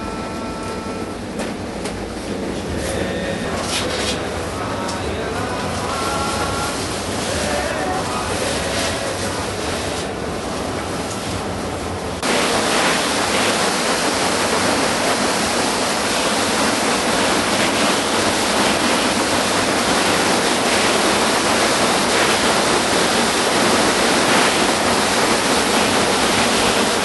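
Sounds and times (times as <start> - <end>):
underground stream rushing: 2.5 - 27.0.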